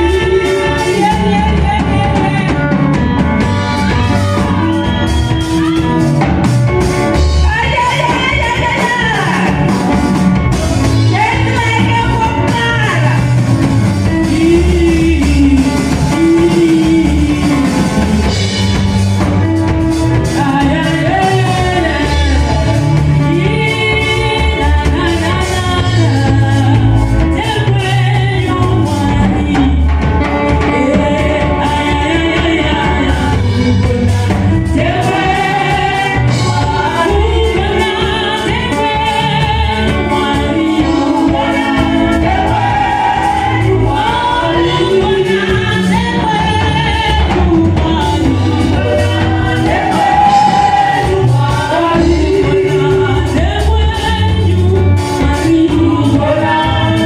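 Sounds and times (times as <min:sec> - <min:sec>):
drum kit: 0:00.0 - 0:57.0
women singing gospel: 0:00.0 - 0:57.0.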